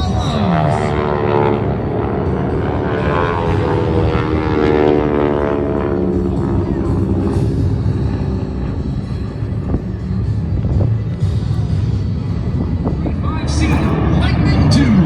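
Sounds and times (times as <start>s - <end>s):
propeller aircraft droning past: 0.0s - 15.0s.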